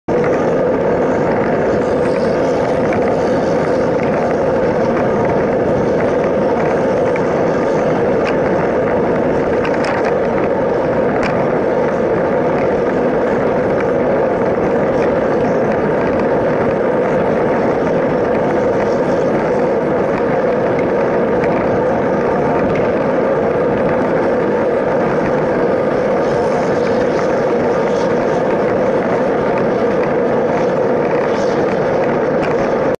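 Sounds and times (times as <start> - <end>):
wind over microphone: 0.0 - 32.9
tyres rolling on pavement: 0.1 - 32.9.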